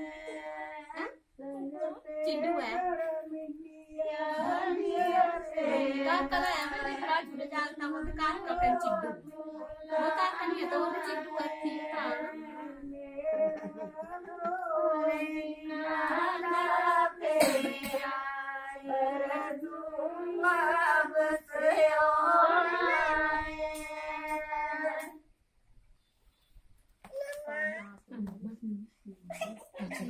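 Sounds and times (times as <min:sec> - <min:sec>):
women singing: 0:00.0 - 0:25.2.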